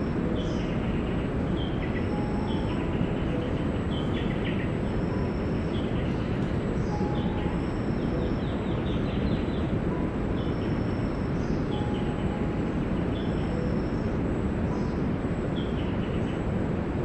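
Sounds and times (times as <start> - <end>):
birds calling short high notes: 0.0 - 16.5
low outdoor rumbling: 0.0 - 17.0.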